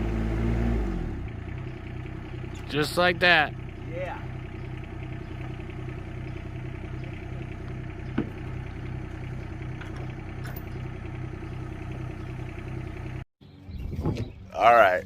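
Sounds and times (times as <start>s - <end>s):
diesel engine idling: 0.0s - 13.3s.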